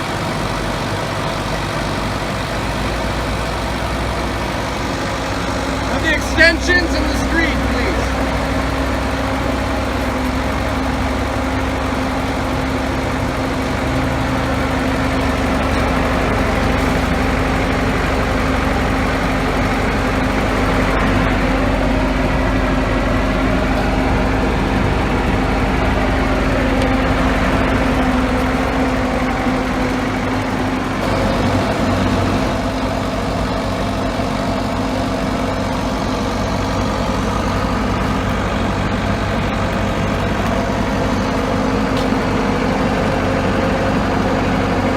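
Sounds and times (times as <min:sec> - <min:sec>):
diesel engine running: 0:00.0 - 0:44.9
whine: 0:00.0 - 0:44.9.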